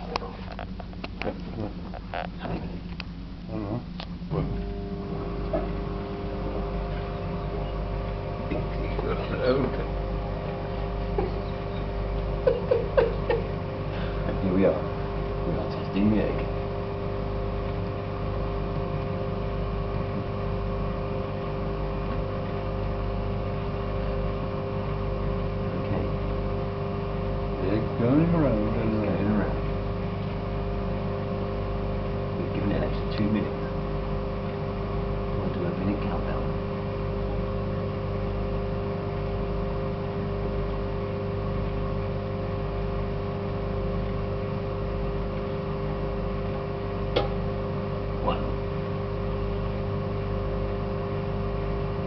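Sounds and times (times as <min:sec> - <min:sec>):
microwave oven humming: 0:00.0 - 0:52.0.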